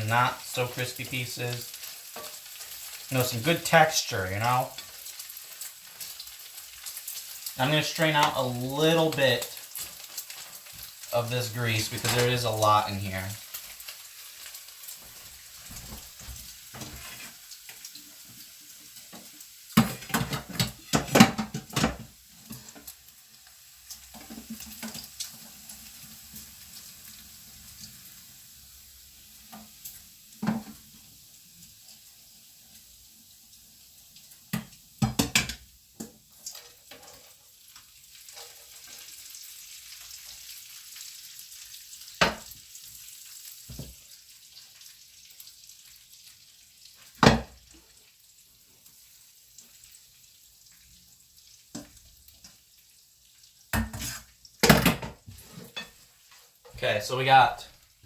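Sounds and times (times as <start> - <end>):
bacon sizzling in a frying pan: 0.0 - 58.0.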